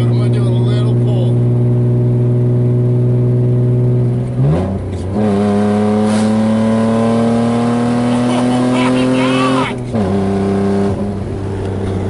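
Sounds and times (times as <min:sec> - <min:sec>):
car engine with loud exhaust: 0:00.0 - 0:12.0.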